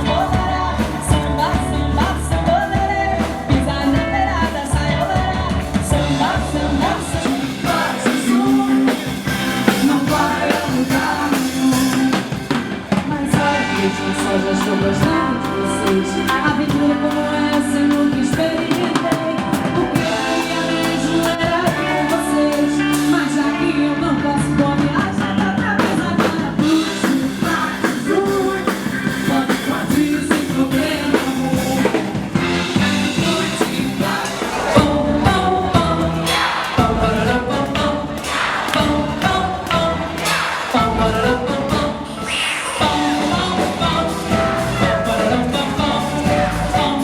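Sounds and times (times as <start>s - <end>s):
steady drum beat: 0.0s - 23.4s, 24.9s - 42.2s, 42.8s - 47.0s
band playing music: 0.0s - 47.0s
person singing: 0.0s - 47.0s.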